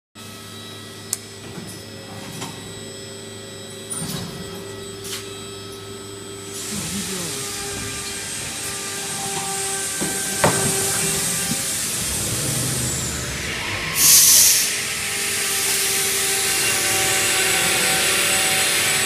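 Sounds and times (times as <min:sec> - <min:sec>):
machine motor hum: 0:00.3 - 0:19.0.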